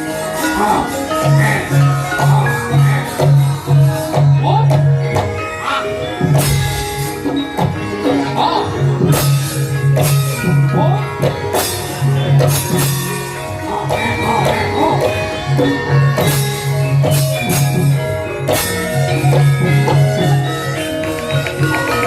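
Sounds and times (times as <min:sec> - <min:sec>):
gamelan ensemble playing: 0:00.0 - 0:22.0
sharp percussion strokes: 0:00.0 - 0:22.0.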